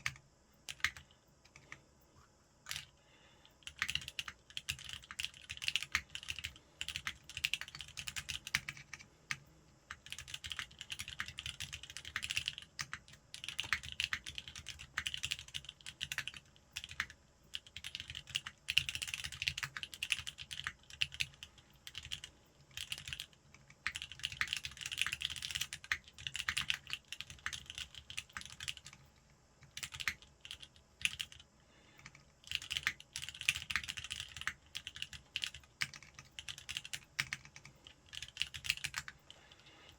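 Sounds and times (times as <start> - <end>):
mechanical keyboard typing: 0.0 - 1.7, 2.7 - 2.9, 3.6 - 31.4, 32.0 - 39.3.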